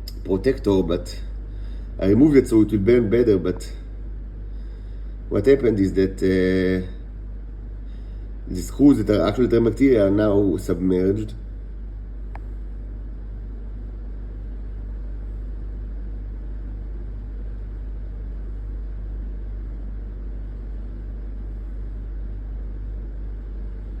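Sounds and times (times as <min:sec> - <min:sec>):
low hum and rumble: 0:00.0 - 0:24.0.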